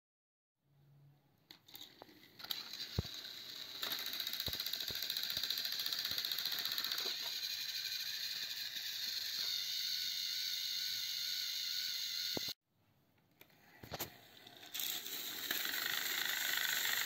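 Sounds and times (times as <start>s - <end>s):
toy train motors whirring: 1.7s - 12.6s, 13.9s - 17.0s.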